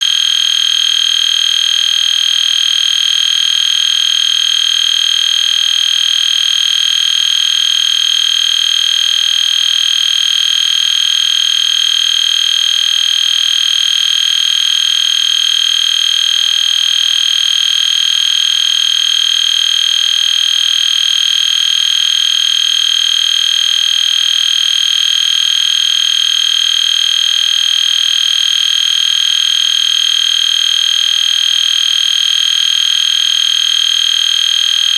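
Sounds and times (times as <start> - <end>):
electronic fire alarm horn: 0.0 - 34.9.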